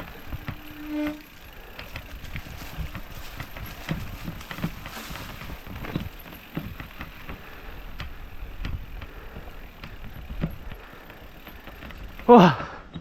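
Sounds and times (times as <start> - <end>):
mountain bike rattling over rocks: 0.0 - 13.0.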